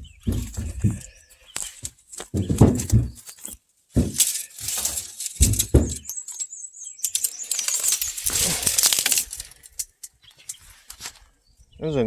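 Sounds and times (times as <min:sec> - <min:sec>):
crunching footsteps over brush: 0:00.0 - 0:11.4.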